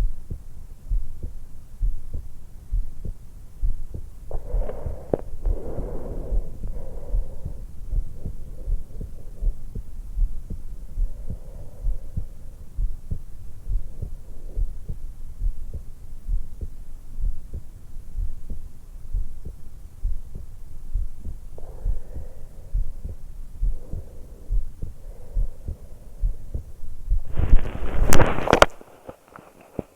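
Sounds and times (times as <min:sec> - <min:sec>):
heartbeat through stethoscope: 0:00.0 - 0:28.8
soft breaths: 0:00.0 - 0:29.9.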